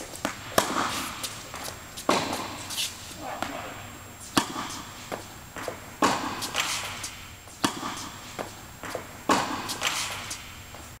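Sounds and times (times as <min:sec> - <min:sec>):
tennis ball struck by racket: 0:00.0 - 0:10.5
ball bouncing on hard court: 0:00.0 - 0:10.9
footsteps on court: 0:00.0 - 0:11.0.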